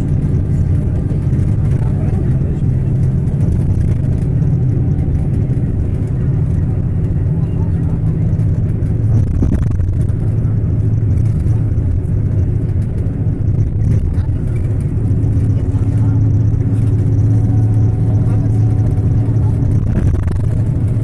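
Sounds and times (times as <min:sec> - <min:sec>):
low drone: 0:00.0 - 0:21.0
vehicle engine and road rumble: 0:00.0 - 0:21.0.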